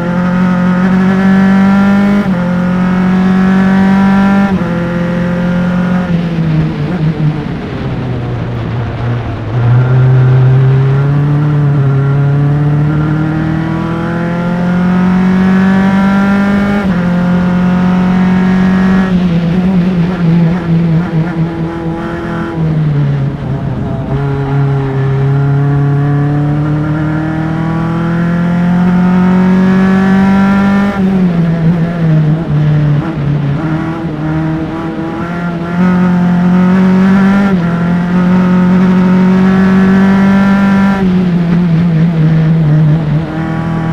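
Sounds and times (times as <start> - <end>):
race car engine revving: 0.0 - 43.9
throttle blips on downshifts: 0.0 - 43.9.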